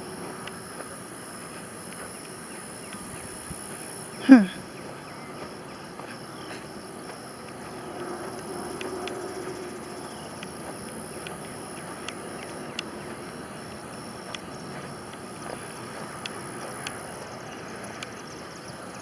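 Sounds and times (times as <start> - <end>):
light scattered ticks: 0.0 - 19.0
steady hiss: 0.0 - 19.0.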